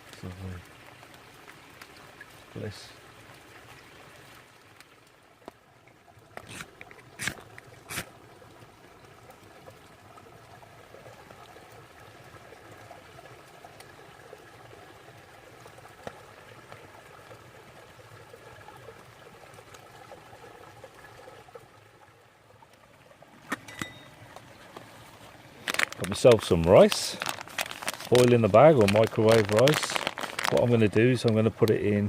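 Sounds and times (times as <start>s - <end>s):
brook trickling and gurgling: 0.0s - 32.0s.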